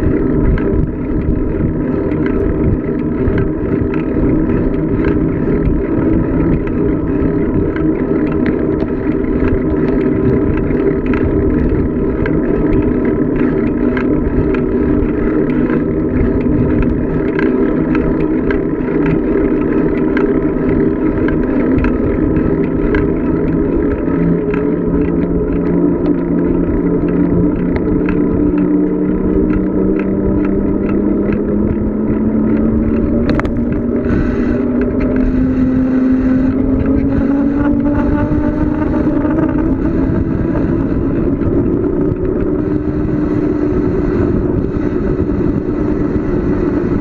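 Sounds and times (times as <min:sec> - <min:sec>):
bicycle tyres humming: 0:00.0 - 0:47.0
wind rumbling on microphone: 0:00.0 - 0:47.0.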